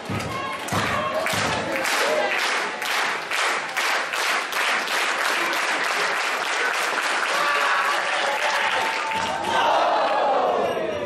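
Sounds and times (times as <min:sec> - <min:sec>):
crowd clapping rhythmically: 0:00.0 - 0:10.6.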